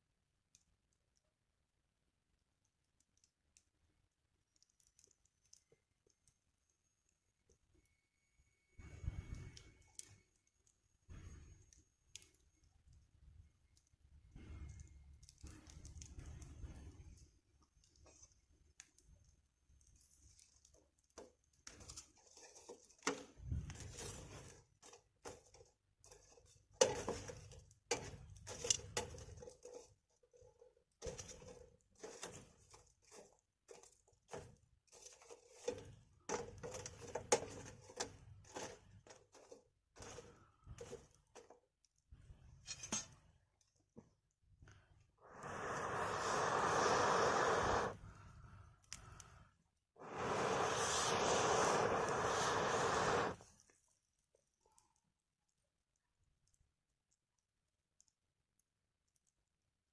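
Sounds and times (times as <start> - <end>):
wood fire crackling and popping: 8.8 - 59.4.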